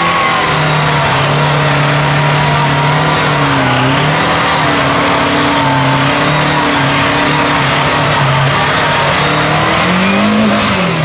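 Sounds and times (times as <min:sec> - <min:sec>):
vehicle engine at high revs: 0:00.0 - 0:11.0.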